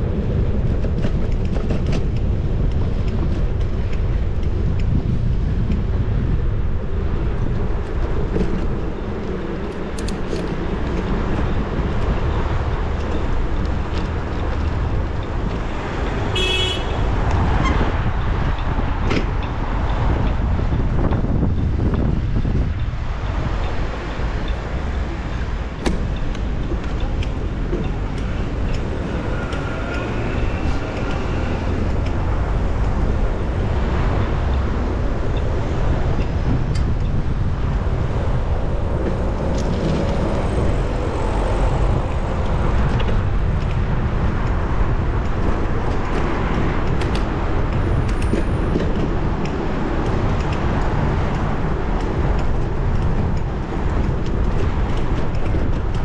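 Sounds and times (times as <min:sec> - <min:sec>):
city street traffic: 0:00.0 - 0:56.0
wind rumble on microphone: 0:00.0 - 0:56.0.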